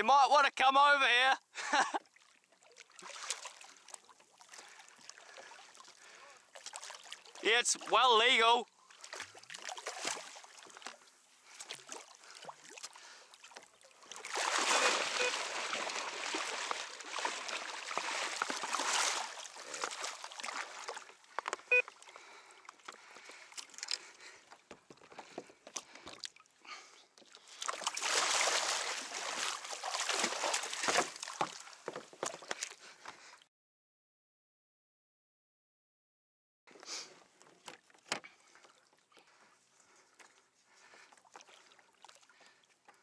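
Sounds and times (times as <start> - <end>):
water splashing and sloshing: 1.6 - 33.4, 36.7 - 43.0.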